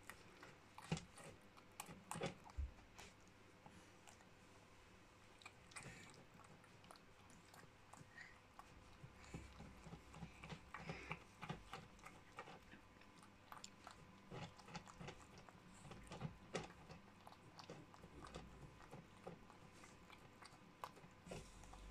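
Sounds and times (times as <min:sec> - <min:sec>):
cat licking and chewing food: 0:00.0 - 0:21.9.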